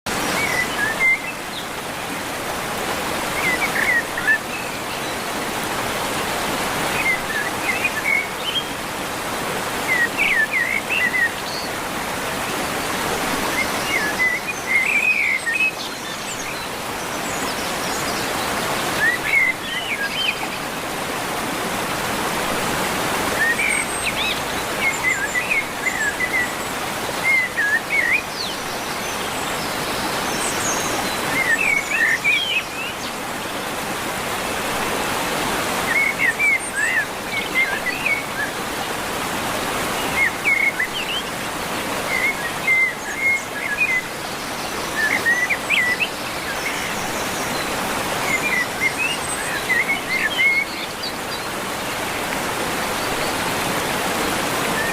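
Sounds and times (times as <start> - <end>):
running water rushing: 0.1 - 54.9
songbirds chirping: 0.1 - 54.9.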